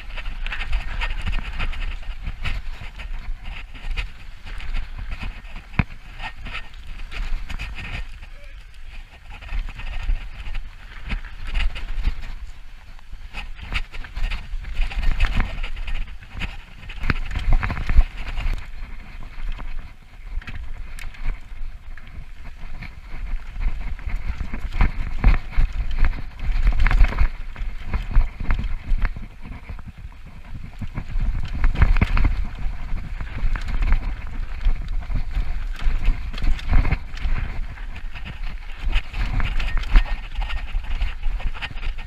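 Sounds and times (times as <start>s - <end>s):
bike rattling over bumps: 0.0s - 42.0s
tyres on loose gravel: 0.0s - 42.0s
wind rumbling on microphone: 0.0s - 42.0s.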